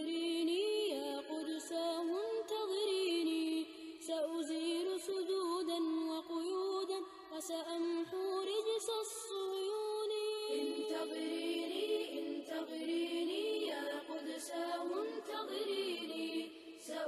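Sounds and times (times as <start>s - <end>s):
voices singing a cappella: 0.0s - 17.0s.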